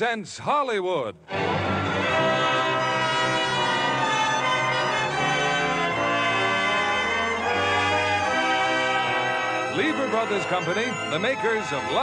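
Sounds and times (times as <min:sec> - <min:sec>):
orchestral music with brass chords: 0:01.3 - 0:12.0.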